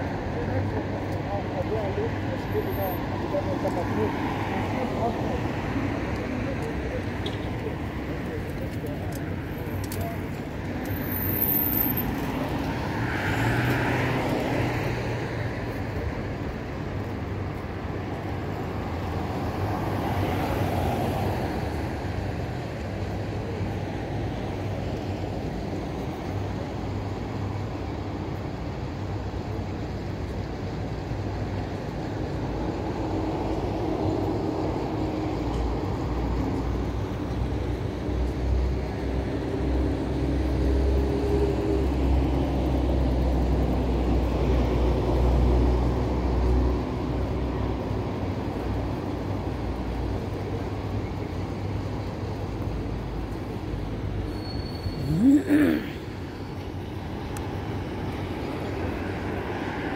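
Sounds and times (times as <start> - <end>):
cars passing by: 0.0 - 59.9
traffic hum: 0.0 - 59.9.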